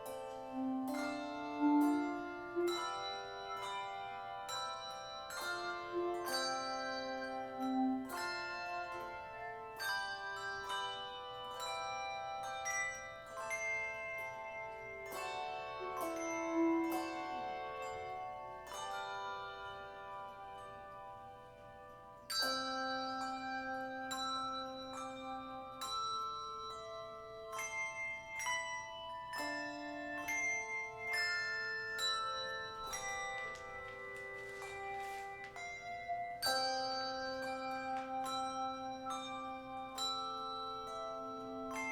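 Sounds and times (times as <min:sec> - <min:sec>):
handbell choir playing: 0:00.0 - 0:41.9.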